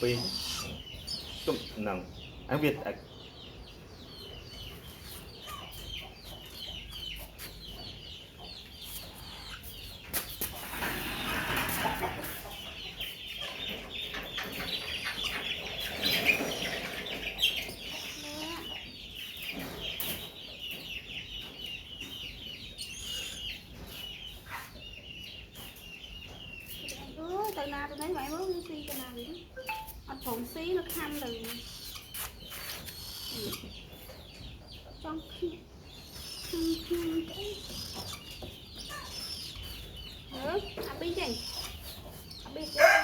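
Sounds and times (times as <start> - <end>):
young birds cheeping: 0.0 - 43.0.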